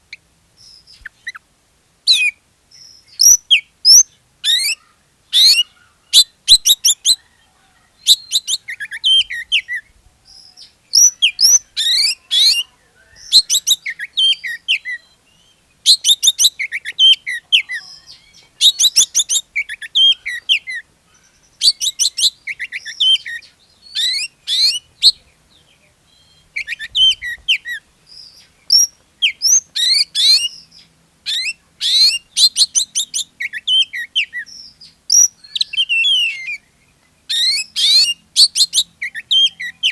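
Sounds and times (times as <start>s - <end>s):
bird singing whistled phrases: 2.1s - 7.3s, 8.0s - 25.3s, 26.1s - 39.9s.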